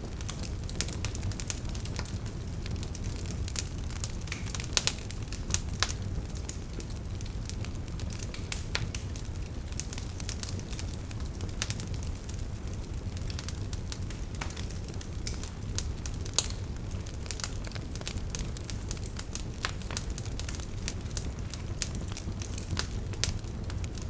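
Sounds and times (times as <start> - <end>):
campfire crackling and popping: 0.0 - 24.0
low rumble of fire: 0.0 - 24.0.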